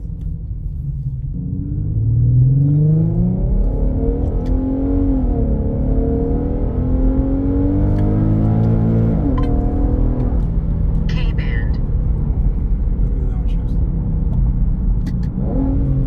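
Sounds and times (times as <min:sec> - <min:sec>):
muffled car engine accelerating: 0:00.0 - 0:16.0.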